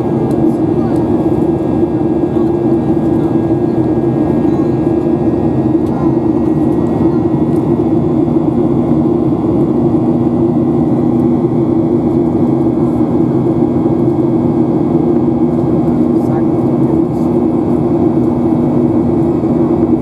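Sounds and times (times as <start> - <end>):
jet engine roar in cabin: 0.0 - 20.0.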